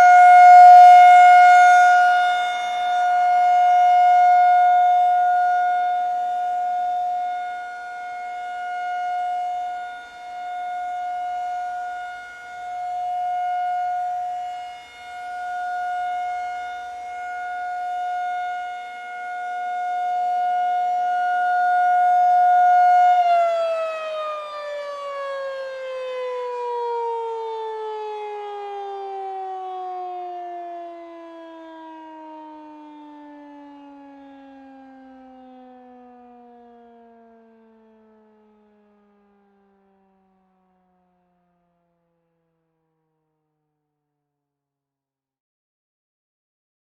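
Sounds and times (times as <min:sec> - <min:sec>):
warning siren: 0:00.0 - 0:43.4.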